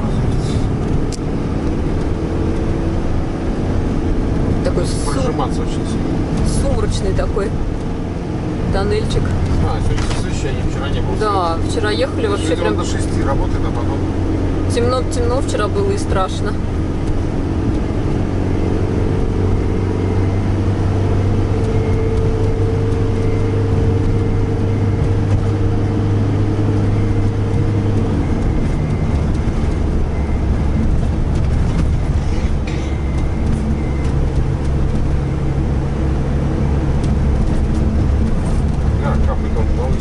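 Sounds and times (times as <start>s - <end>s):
engine drone: 0.0s - 40.0s
road noise: 0.0s - 40.0s.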